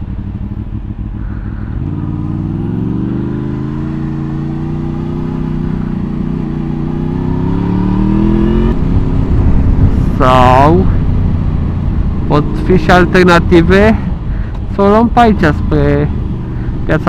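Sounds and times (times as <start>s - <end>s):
motorcycle engine accelerating: 0.0s - 14.4s.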